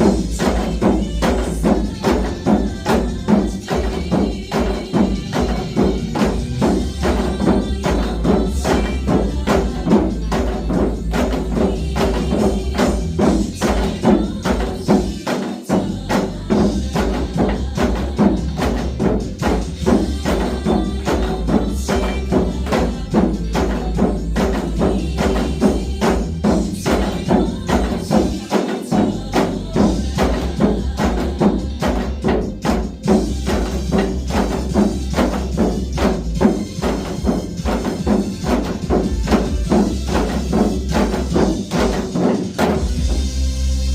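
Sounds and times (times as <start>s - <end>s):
hourglass drums playing rhythm: 0.0s - 43.6s
disco backing track with bass beat: 0.0s - 43.9s.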